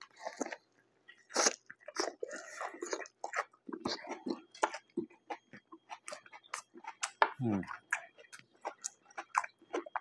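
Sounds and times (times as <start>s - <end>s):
chewing with wet mouth clicks: 0.0s - 10.0s.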